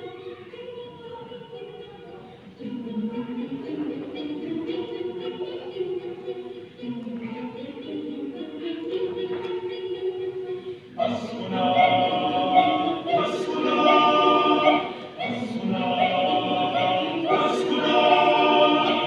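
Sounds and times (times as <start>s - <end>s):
mixed choir singing: 0.0s - 19.0s.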